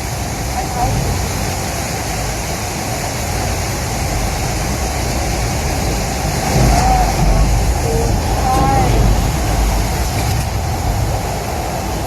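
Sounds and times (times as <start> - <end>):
low rumble: 0.0 - 12.0
steady rushing noise: 0.0 - 12.0.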